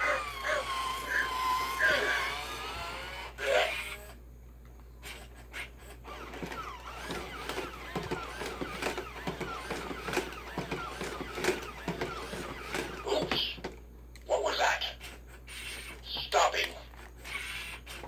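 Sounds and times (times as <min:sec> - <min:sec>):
toy robot gear motors whirring: 0:00.0 - 0:04.2, 0:05.0 - 0:13.8, 0:14.8 - 0:18.0.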